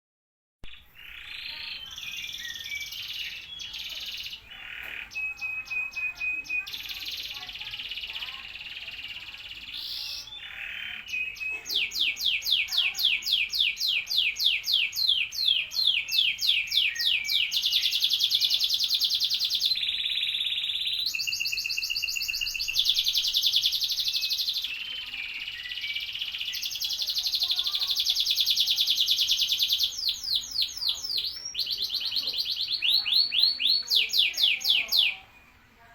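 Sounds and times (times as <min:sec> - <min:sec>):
canary singing trills: 0:00.6 - 0:35.9.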